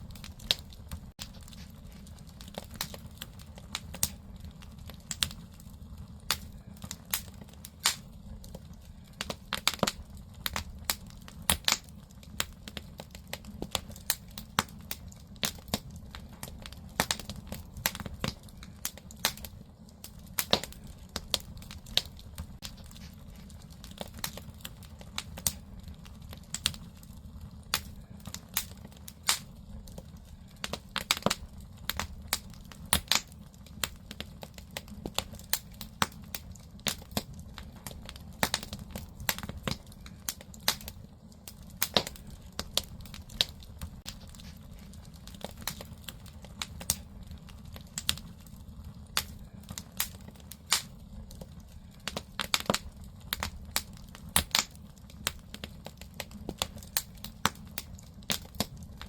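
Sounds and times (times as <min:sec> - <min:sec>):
fire low rumble: 0:00.0 - 0:59.0
firewood crackling and popping: 0:00.0 - 0:59.0.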